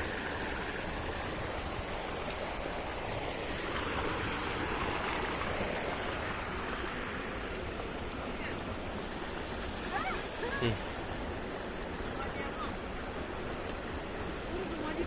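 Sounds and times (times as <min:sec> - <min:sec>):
stream running over stones: 0:00.0 - 0:15.0.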